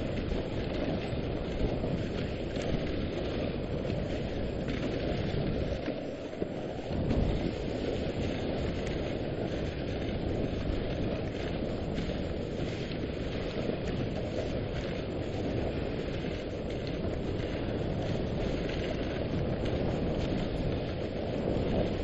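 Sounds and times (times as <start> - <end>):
sled runners sliding on snow: 0.0 - 22.0
wind on microphone: 0.0 - 22.0.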